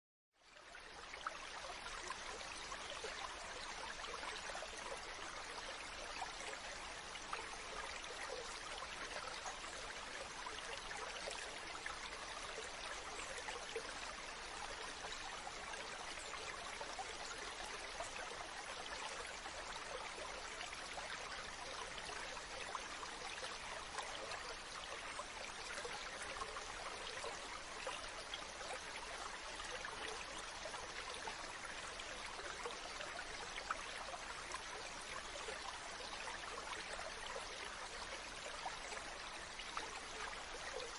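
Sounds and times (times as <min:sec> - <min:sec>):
stream running over rocks: 0:00.4 - 0:40.9.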